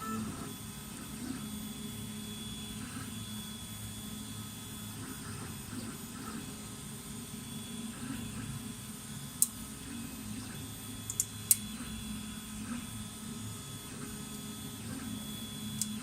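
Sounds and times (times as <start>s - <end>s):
printer motors whining: 0.0s - 16.0s
steady low hum: 0.0s - 16.0s.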